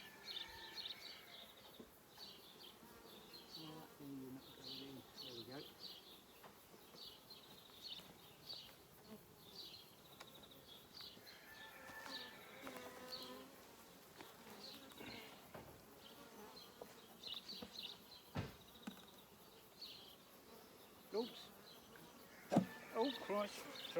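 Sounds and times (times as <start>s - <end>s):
honeybees buzzing: 1.8s - 23.9s.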